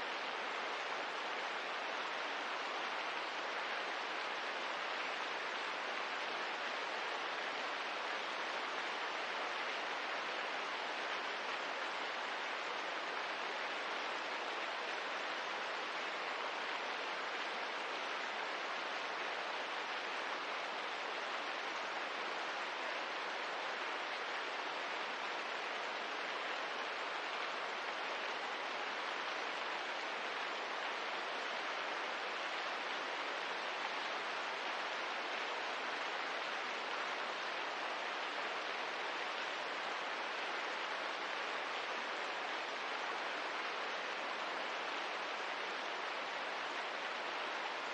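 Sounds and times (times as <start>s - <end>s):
steady rain hiss: 0.0s - 47.9s.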